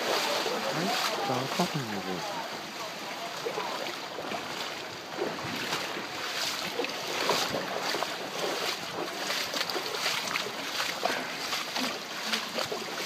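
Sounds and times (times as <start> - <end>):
splashes and drips: 0.0 - 13.0.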